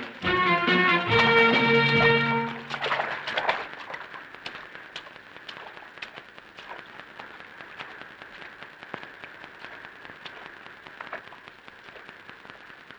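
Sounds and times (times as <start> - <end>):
steady low hiss: 0.0 - 12.9.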